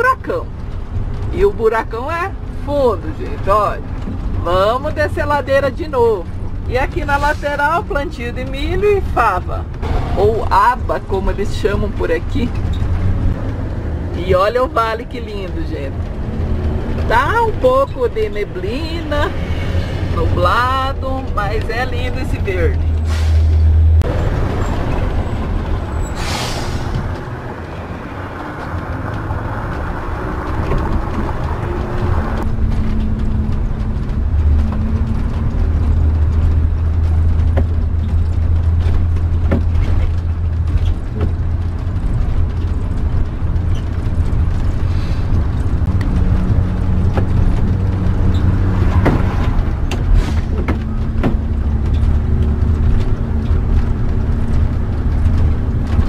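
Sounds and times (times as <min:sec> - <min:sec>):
bus engine humming: 0:00.0 - 0:56.0.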